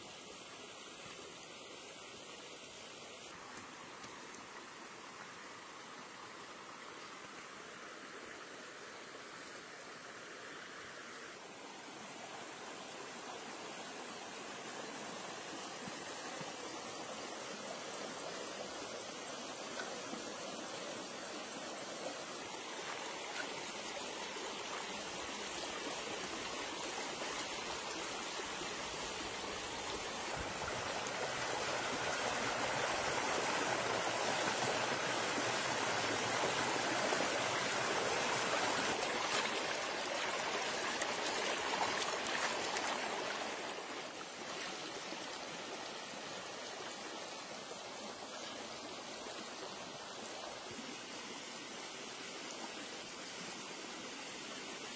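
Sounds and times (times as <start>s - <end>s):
stream rushing over stones: 0.1s - 54.9s.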